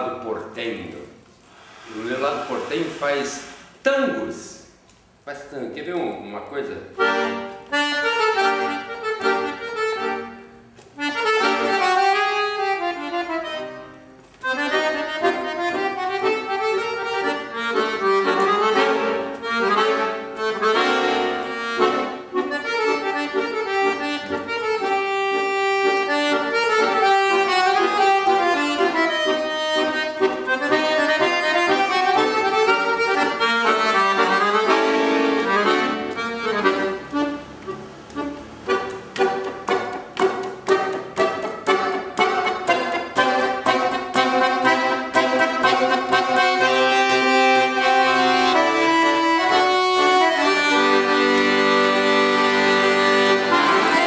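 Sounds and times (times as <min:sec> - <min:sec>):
accordion playing a tango: 0:00.0 - 0:05.2, 0:06.1 - 0:54.0.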